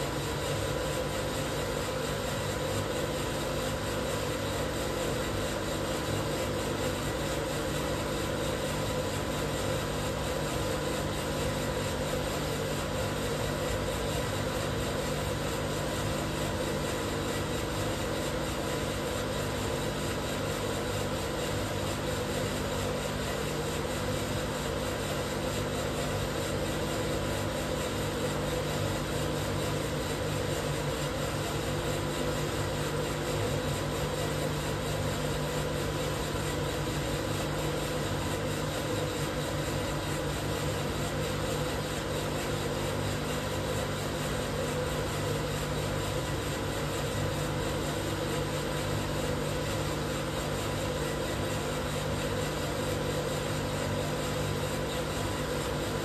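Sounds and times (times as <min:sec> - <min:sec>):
coffee roaster machine noise: 0:00.0 - 0:56.0.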